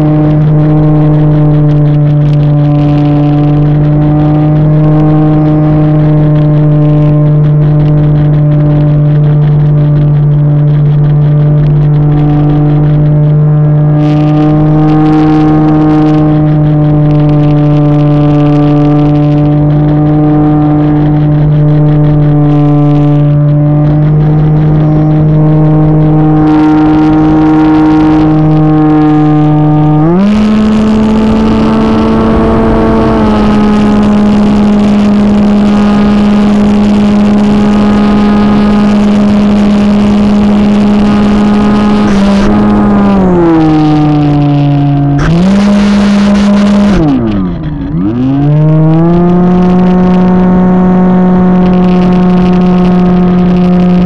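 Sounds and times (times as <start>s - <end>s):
model airplane motor droning: 0.0s - 54.0s
wind noise: 0.0s - 54.0s.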